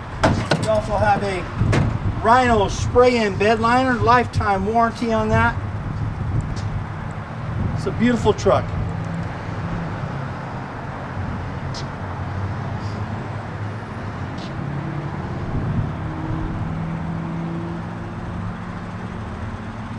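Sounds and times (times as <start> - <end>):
traffic noise: 0.0 - 19.9
low engine hum: 0.1 - 19.9.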